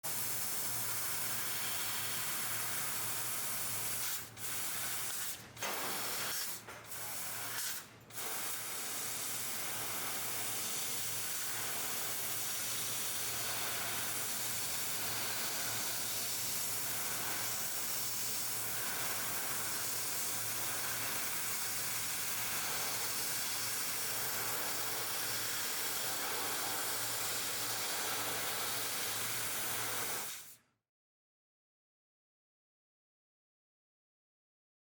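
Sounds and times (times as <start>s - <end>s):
gas jet hissing: 0.1s - 30.6s.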